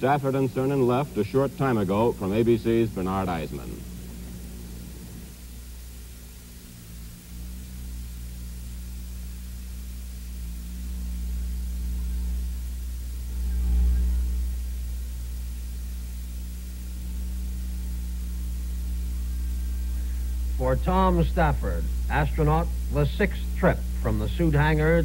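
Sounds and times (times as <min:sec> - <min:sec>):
hum and hiss: 0:00.0 - 0:25.0.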